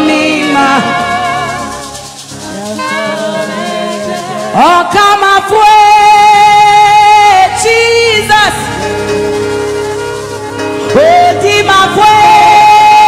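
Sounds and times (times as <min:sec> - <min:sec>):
instrumental backing: 0:00.0 - 0:13.0
person singing worship song: 0:00.0 - 0:13.0.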